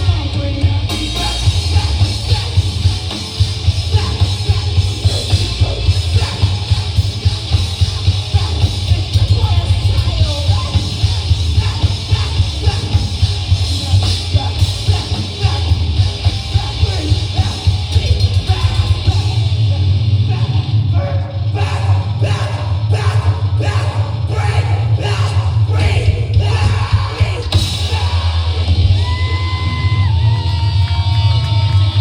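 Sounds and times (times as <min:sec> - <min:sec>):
pounding drum beat: 0:00.0 - 0:19.7, 0:21.5 - 0:32.0
heavy bass: 0:00.0 - 0:32.0
shouted singing: 0:00.0 - 0:32.0.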